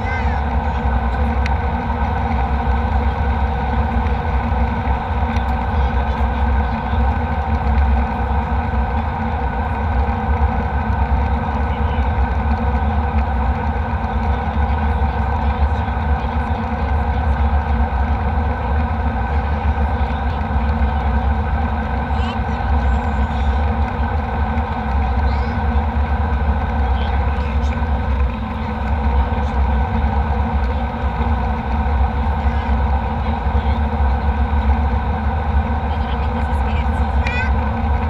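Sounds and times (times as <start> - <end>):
jet airliner cabin rumble: 0.0 - 38.0
steady hums: 0.0 - 38.0.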